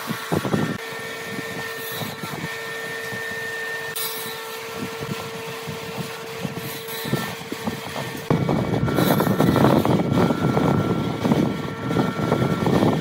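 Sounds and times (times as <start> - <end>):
machine hum with held tone: 0.0 - 13.0.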